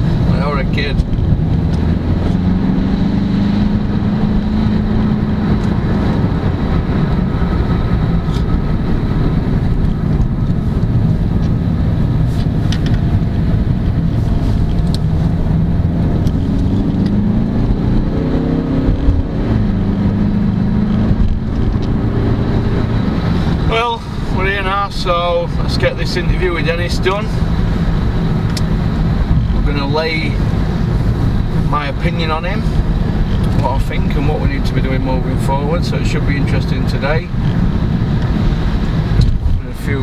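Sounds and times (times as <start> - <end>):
car engine and tyre drone: 0.0 - 40.0.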